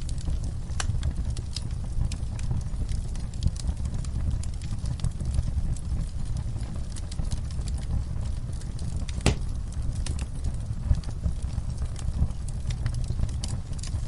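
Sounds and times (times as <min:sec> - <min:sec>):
low rumble of flame: 0:00.0 - 0:14.0
wood fire crackling and popping: 0:00.0 - 0:14.0.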